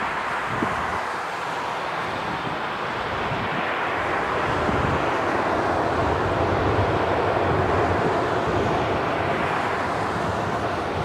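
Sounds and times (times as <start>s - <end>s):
distant jet engine roar: 0.0s - 11.0s.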